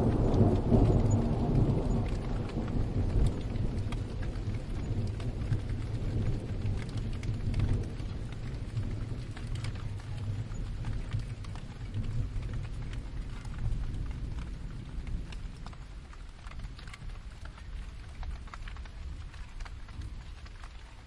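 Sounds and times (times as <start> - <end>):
distant thunder rumble: 0.0 - 20.8
rain drops ticking: 0.0 - 21.0.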